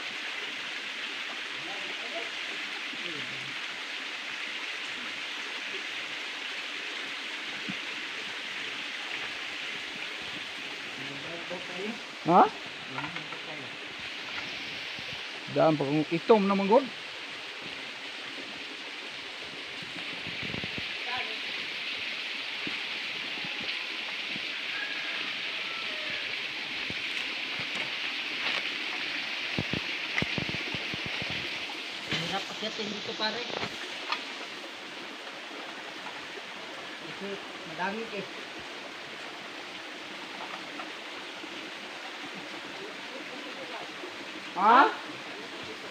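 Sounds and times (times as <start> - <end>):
forest background hiss: 0.0 - 45.9.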